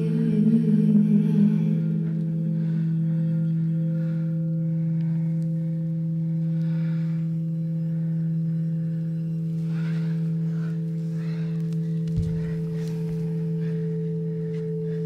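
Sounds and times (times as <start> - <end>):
ambient drone music: 0.0 - 15.0.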